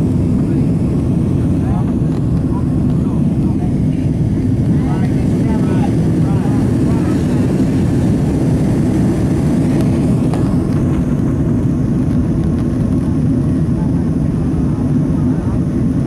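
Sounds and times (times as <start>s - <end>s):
airplane cabin roar: 0.0s - 16.0s
steady low hum: 0.0s - 16.0s.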